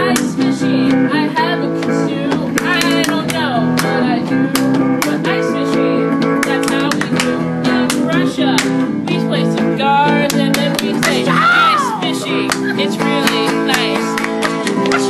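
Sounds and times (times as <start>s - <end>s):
guitar strumming chords: 0.0s - 15.0s
person singing: 0.0s - 15.0s.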